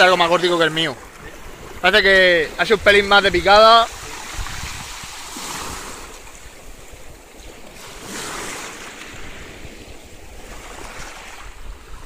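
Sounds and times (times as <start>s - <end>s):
sea surf washing in: 0.0s - 12.0s
wind on microphone: 1.0s - 12.0s.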